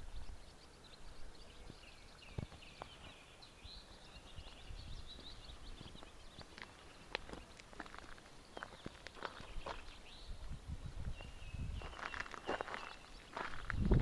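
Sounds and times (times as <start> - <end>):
songbird twittering: 0.0 - 14.0
faint footsteps on path: 1.5 - 14.0.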